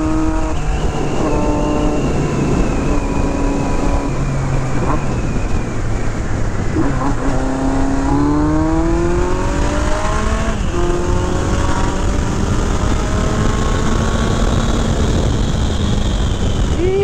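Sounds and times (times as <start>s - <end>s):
motorcycle engine accelerating: 0.0s - 17.0s
wind rumble on microphone: 0.0s - 17.0s.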